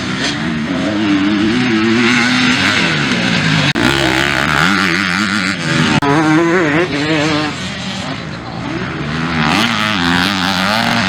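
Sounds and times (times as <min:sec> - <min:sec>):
motocross bikes revving: 0:00.0 - 0:11.0.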